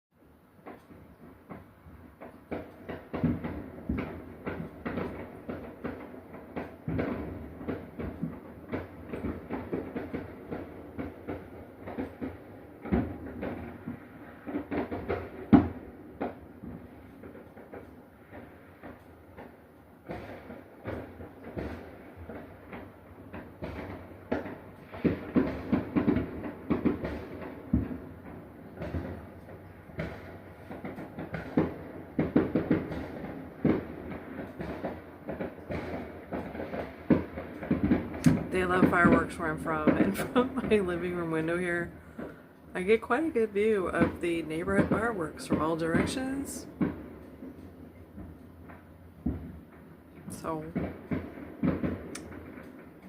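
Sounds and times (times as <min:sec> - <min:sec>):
fireworks popping and banging: 0:00.4 - 0:53.0.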